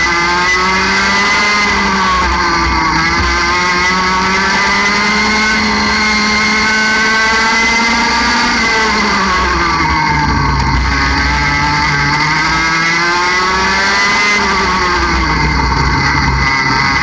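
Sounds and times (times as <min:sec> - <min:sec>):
kart engine at racing revs: 0:00.0 - 0:17.0.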